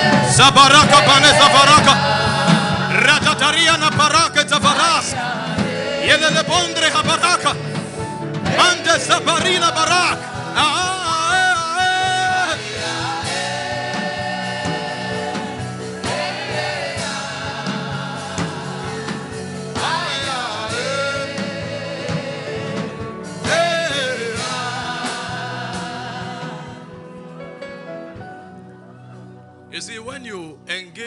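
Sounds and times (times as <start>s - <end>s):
voices singing gospel music: 0.0s - 28.4s
sustained accompaniment with beat: 0.0s - 29.7s.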